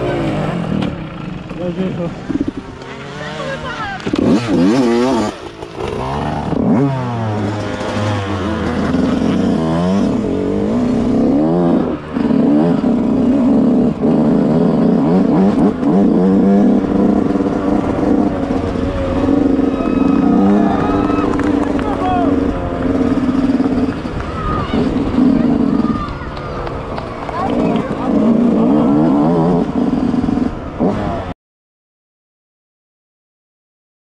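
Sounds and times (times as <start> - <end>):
motocross engine revving: 0.0 - 31.4.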